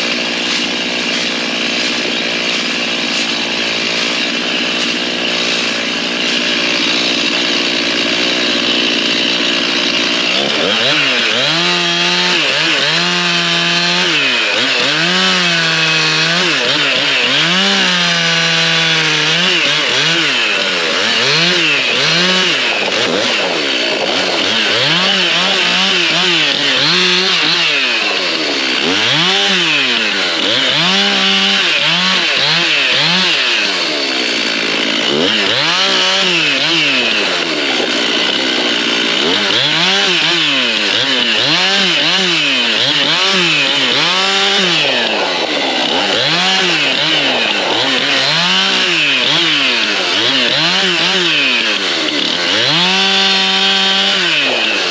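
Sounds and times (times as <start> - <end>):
chainsaw revving while cutting: 0.0 - 54.9.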